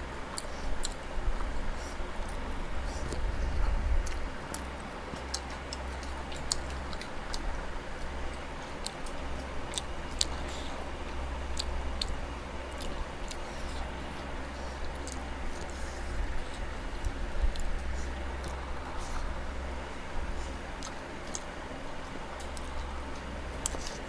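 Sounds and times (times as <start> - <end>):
chewing with mouth smacks: 0.0 - 24.0
steady low hum: 0.0 - 24.0.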